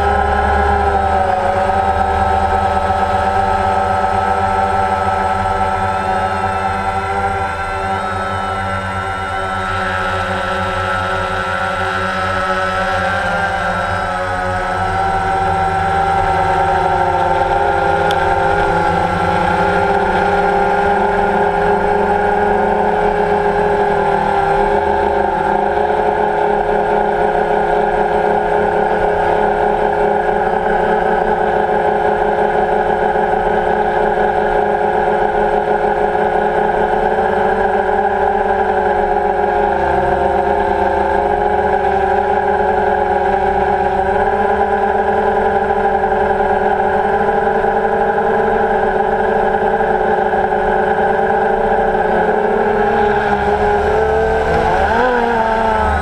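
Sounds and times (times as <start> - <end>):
motors humming: 0.0 - 56.0.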